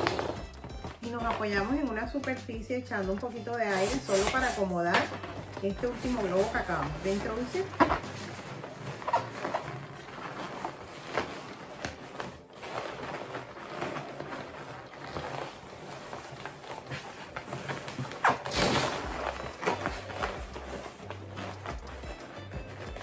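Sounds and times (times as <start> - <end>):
balloon creaks: 0.0 - 23.0
balloons squeaking and rubbing: 0.0 - 23.0.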